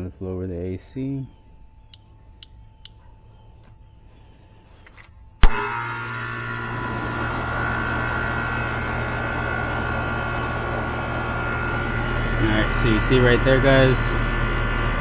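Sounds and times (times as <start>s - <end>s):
compressor and fan humming: 0.0s - 15.0s.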